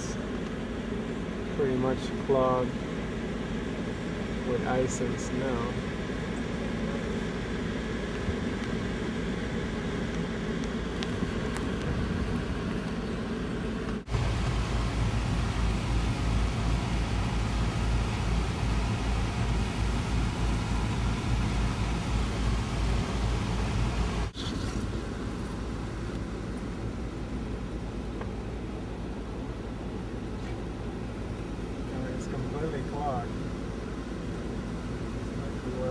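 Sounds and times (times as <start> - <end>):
vehicle engine and road rumble: 0.0 - 35.9.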